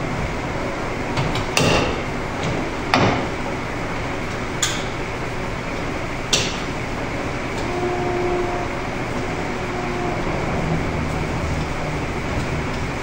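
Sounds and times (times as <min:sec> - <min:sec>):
boat engine idling: 0:02.0 - 0:13.0.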